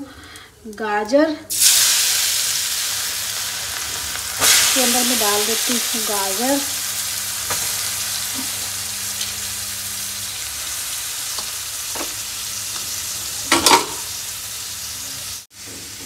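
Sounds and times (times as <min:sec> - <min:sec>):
carrots sizzling in hot fat: 0:01.5 - 0:16.0.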